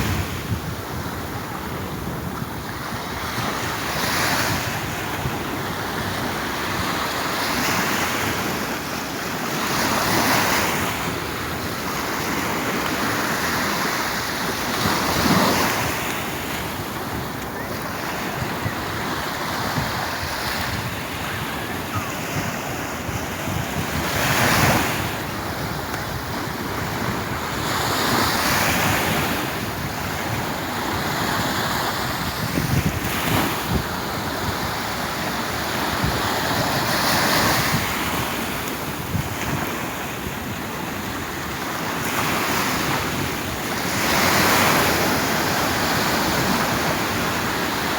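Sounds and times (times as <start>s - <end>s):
sea waves breaking on shore: 0.0s - 47.9s
wind on microphone: 0.0s - 47.9s.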